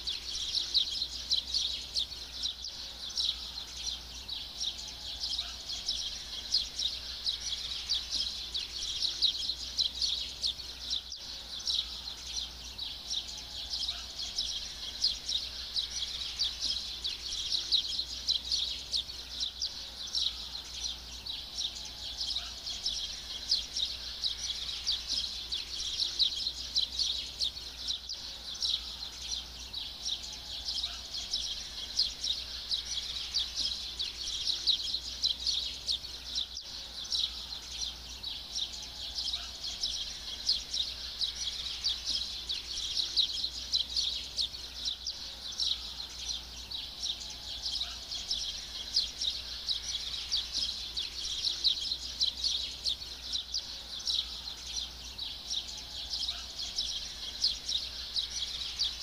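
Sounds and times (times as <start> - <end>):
rapid high-pitched chirping chorus: 0.0 - 59.0.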